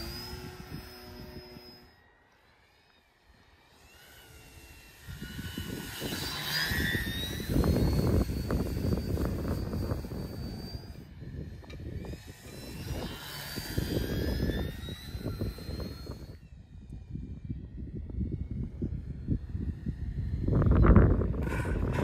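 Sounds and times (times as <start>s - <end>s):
wind buffeting microphone: 0.0s - 1.9s, 4.3s - 22.0s
model plane motor whining: 0.0s - 22.0s.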